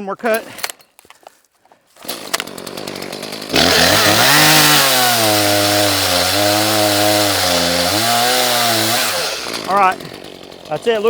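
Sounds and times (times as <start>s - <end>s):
chainsaw revving and cutting log: 2.0s - 11.0s.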